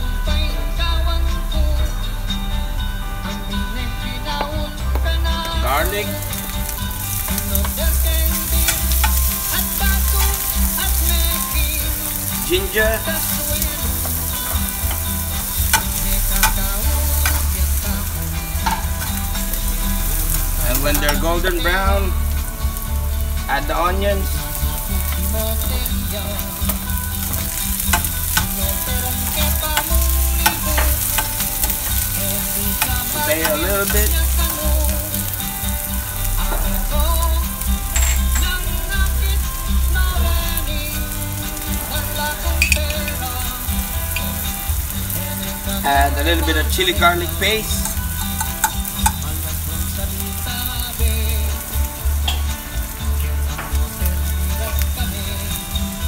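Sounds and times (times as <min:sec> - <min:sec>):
background music with bass: 0:00.0 - 0:56.0
garlic sizzling in oil: 0:00.0 - 0:56.0.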